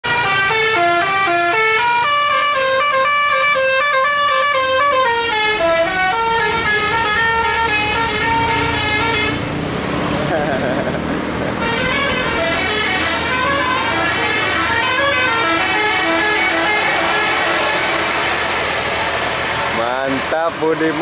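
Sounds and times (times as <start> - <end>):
multi-tone bus horn melody: 0.0 - 9.6, 11.5 - 18.8
engine and road noise: 0.0 - 21.0.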